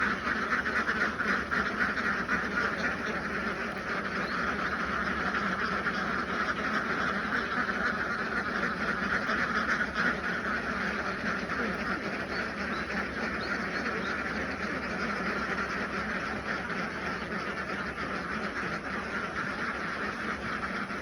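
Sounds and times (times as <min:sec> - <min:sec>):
flock of ducks quacking: 0:00.0 - 0:21.0.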